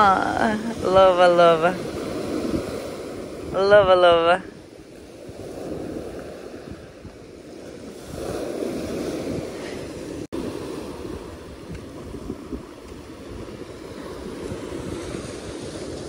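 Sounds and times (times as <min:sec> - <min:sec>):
surf washing over pebbles: 0:00.0 - 0:16.0
wind buffeting microphone: 0:00.0 - 0:16.0.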